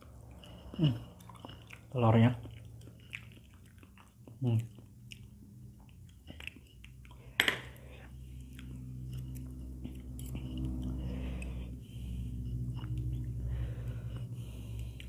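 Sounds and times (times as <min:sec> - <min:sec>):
chewing and mouth noises: 0:00.0 - 0:15.0.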